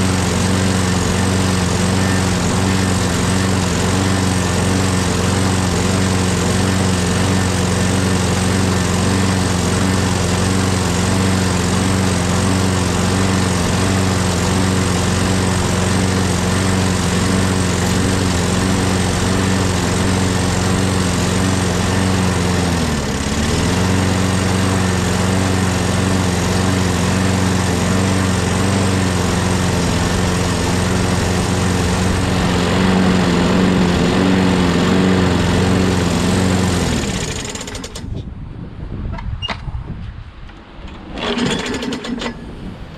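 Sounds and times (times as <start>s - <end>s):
lawnmower engine running: 0.0s - 38.2s, 40.5s - 42.8s.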